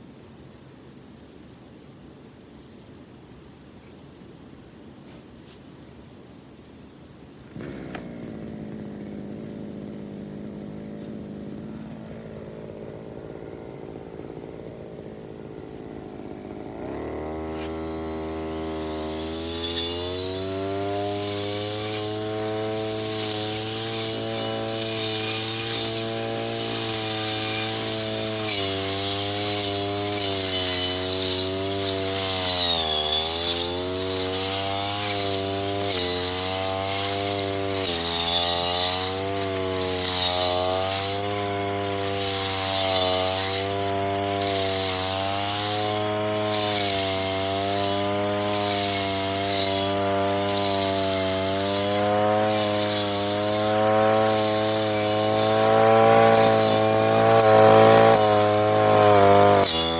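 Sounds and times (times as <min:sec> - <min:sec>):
hiss of cutting grass: 0:04.9 - 0:05.8, 0:07.4 - 0:59.9
brush cutter engine: 0:07.5 - 0:59.9.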